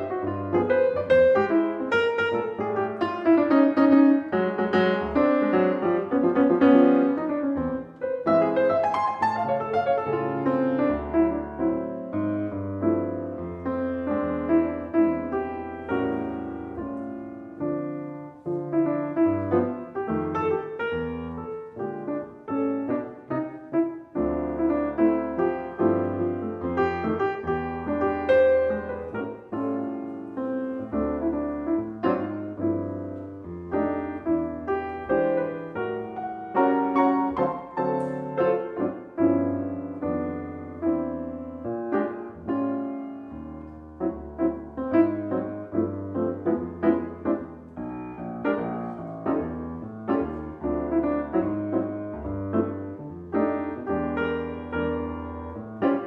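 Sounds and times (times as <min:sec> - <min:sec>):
jazz piano: 0:00.0 - 0:56.0.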